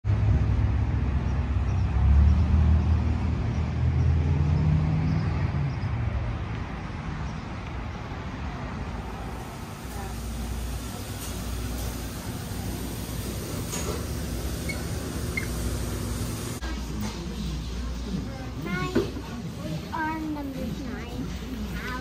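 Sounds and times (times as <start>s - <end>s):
passing vehicles engine rumble: 0.0s - 22.0s.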